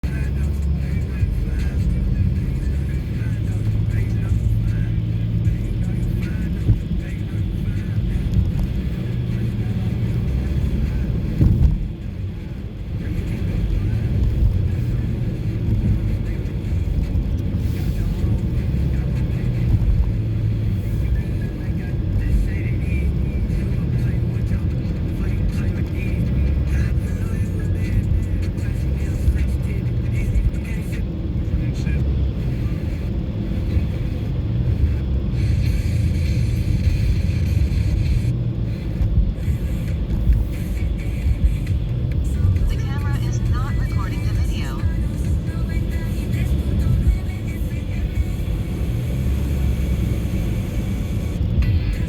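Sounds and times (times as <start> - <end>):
car driving on highway: 0.0 - 52.0.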